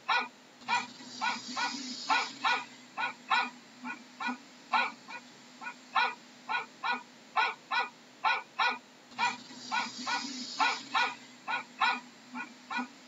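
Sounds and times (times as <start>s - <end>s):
dog barking: 0.0s - 13.0s.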